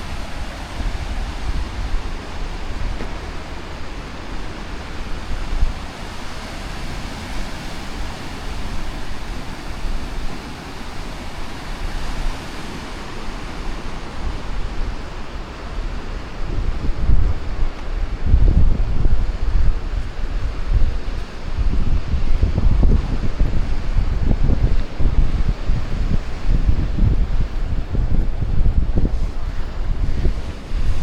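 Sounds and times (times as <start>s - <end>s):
sea waves washing on shore: 0.0s - 31.0s
wind buffeting microphone: 0.0s - 31.0s.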